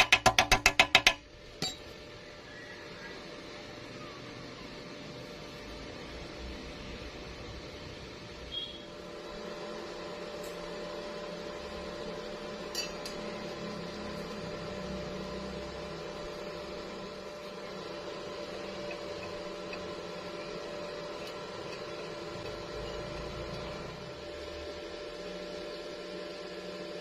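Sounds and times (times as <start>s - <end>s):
electrical machine hum: 0.0s - 27.0s.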